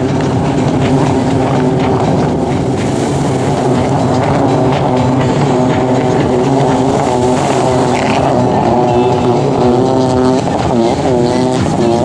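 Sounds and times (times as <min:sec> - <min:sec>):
jet ski engines droning: 0:00.0 - 0:12.0.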